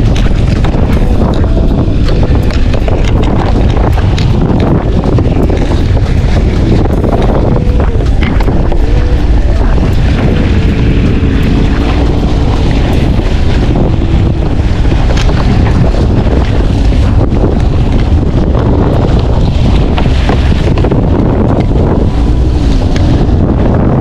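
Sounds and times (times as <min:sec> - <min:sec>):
boat motor: 0:00.0 - 0:24.0
water noise: 0:00.0 - 0:24.0
wind buffeting microphone: 0:00.0 - 0:24.0.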